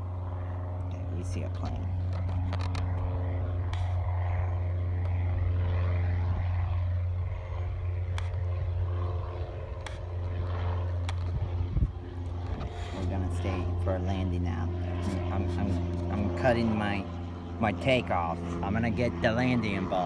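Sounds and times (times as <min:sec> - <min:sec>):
low hum: 0:00.0 - 0:20.0
propeller airplane engine: 0:00.0 - 0:20.0.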